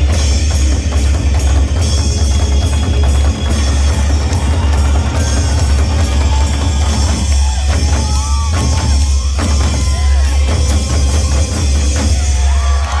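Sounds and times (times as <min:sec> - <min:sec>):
drums beaten in fast rhythm: 0:00.0 - 0:13.0.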